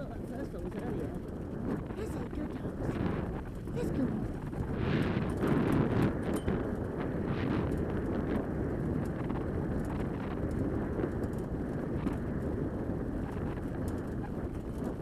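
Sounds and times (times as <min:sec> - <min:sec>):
rig rumbling along a trail: 0:00.0 - 0:15.0
wind on microphone: 0:00.0 - 0:15.0.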